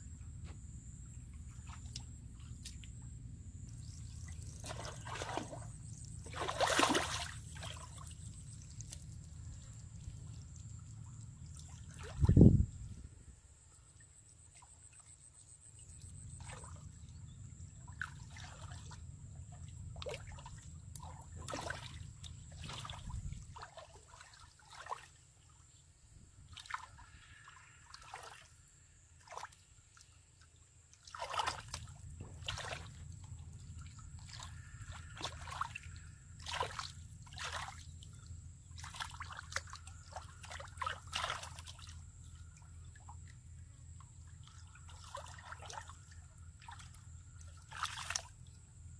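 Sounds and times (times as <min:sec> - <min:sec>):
muddy water sloshing and splashing: 0:00.3 - 0:13.3, 0:13.9 - 0:48.9.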